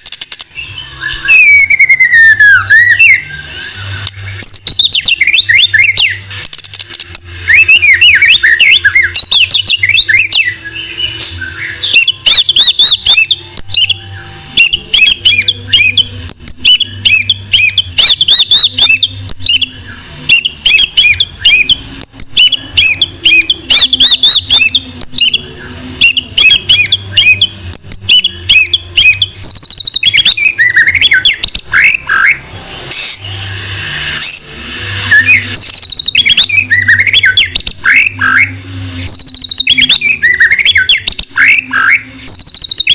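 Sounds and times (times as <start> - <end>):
songbird singing: 0.0 - 33.6, 34.2 - 42.9.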